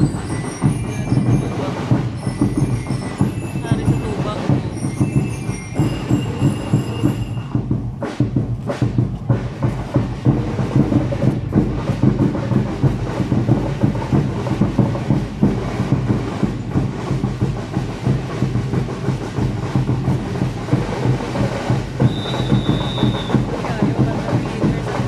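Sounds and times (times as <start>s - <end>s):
parade drums beating: 0.0s - 25.0s.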